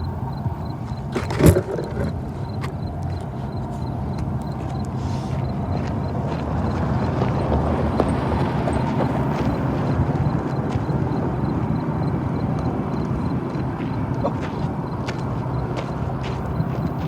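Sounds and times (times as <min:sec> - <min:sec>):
wheels clattering over rails: 0:00.0 - 0:17.0
freight train rumbling past: 0:01.8 - 0:17.0.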